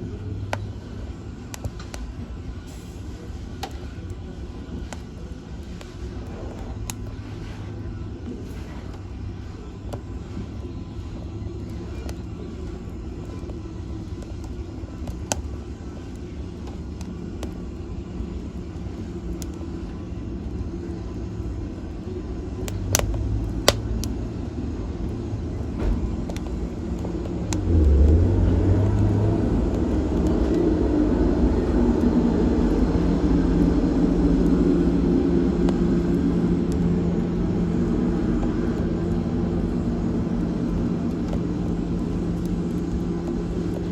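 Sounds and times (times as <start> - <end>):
fire crackling pops: 0.0 - 43.9
low rumble: 0.0 - 43.9
wood fire burning: 0.0 - 43.9.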